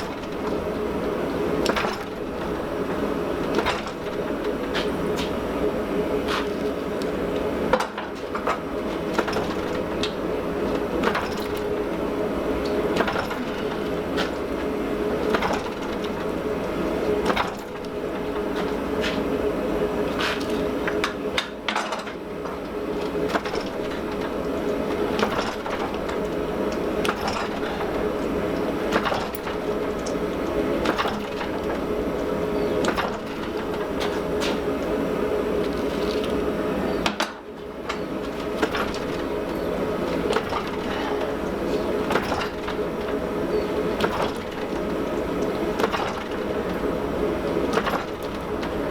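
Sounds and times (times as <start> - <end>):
droning hum of shop equipment: 0.0 - 48.9.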